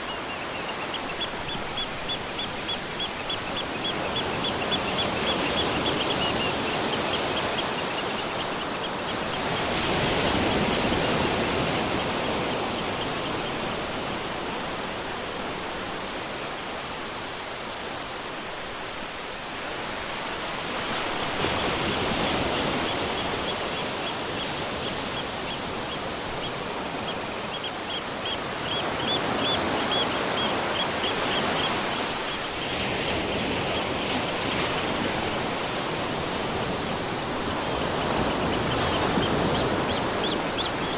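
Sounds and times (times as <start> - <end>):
ocean surf washing on shore: 0.0 - 40.9.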